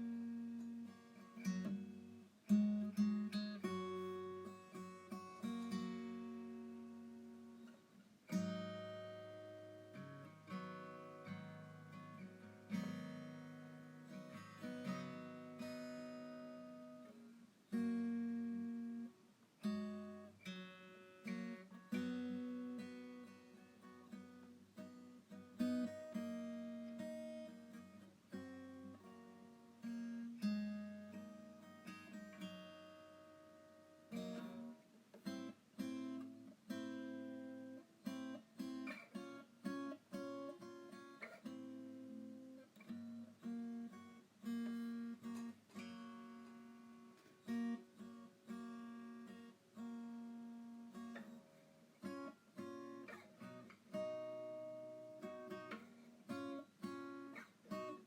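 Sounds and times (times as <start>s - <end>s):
gentle acoustic guitar: 0.0s - 58.0s.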